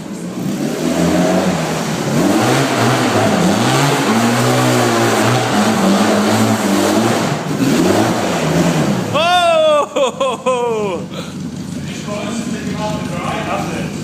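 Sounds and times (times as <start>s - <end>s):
vehicle engine revving: 0.0s - 9.4s, 10.4s - 14.0s.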